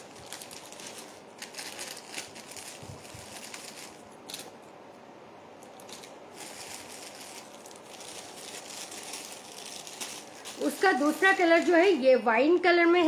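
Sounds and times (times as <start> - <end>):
plastic packets crinkling: 0.0 - 4.6, 5.7 - 13.0.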